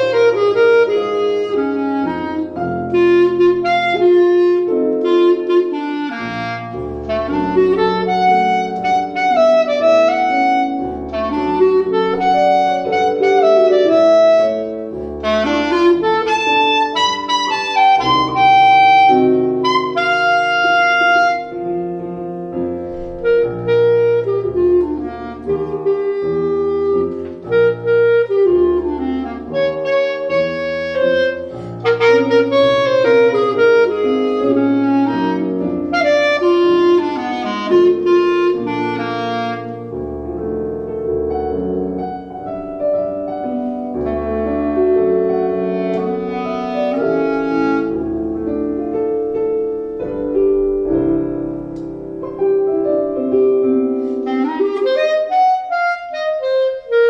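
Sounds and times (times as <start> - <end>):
clarinet melody: 0.0 - 57.0
piano accompaniment: 0.0 - 57.0.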